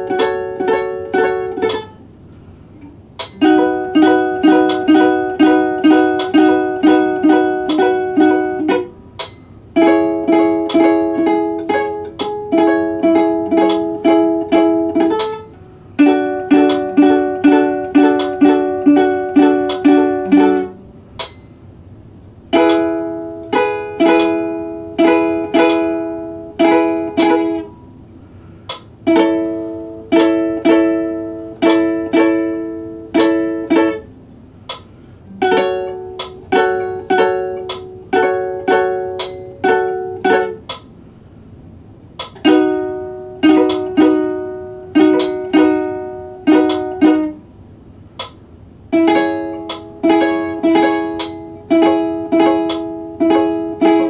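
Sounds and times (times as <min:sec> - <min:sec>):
ukulele strumming chords: 0:00.0 - 0:41.0, 0:41.6 - 0:47.6, 0:48.2 - 0:54.0.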